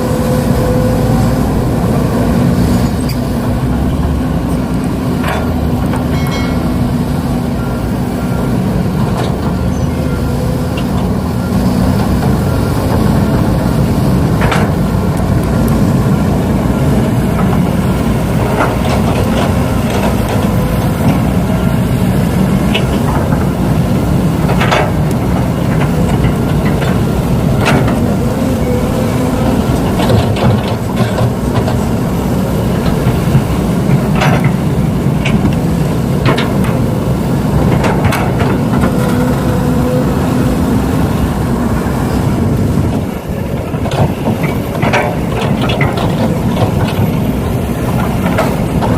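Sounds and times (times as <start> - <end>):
heavy equipment engine running: 0.0 - 48.9.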